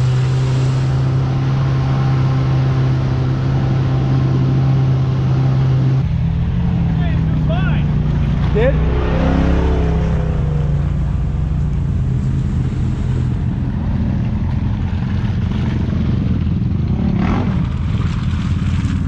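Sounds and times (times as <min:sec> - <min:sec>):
off-road vehicle engine droning: 0:00.0 - 0:19.0.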